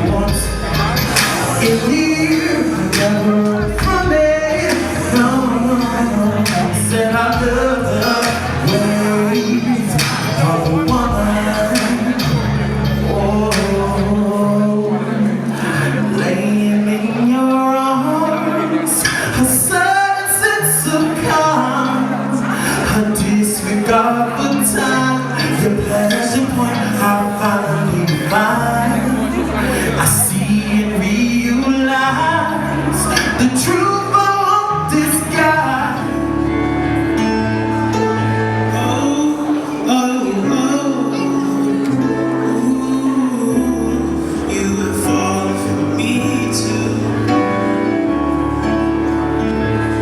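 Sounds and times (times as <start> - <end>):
music with singing: 0.0 - 50.0.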